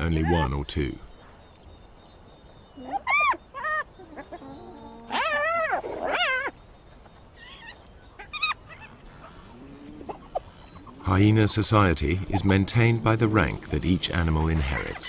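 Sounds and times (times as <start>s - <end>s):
hyena cubs calling: 0.0s - 0.7s, 2.7s - 6.7s, 7.3s - 15.0s.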